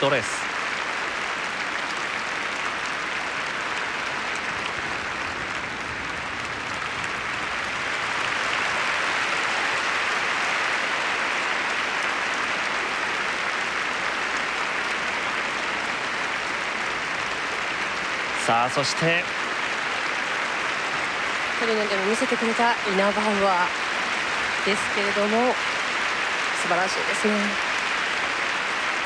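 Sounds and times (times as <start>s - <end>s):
arena crowd applauding: 0.0s - 29.0s.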